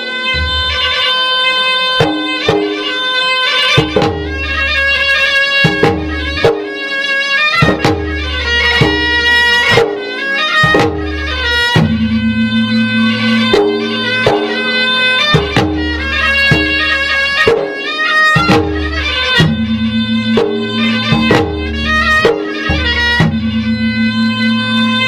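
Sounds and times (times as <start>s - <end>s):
drums striking sharply: 0.0s - 3.1s, 3.7s - 6.8s, 7.6s - 12.4s, 13.2s - 24.0s
reedy wind instrument melody: 0.0s - 25.0s.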